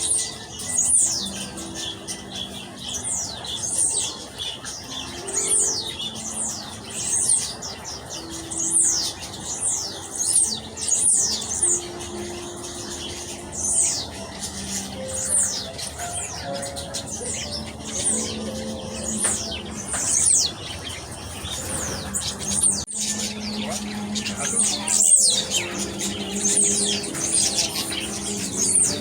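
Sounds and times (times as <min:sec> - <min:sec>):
birds chirping shrilly: 0:00.0 - 0:29.0.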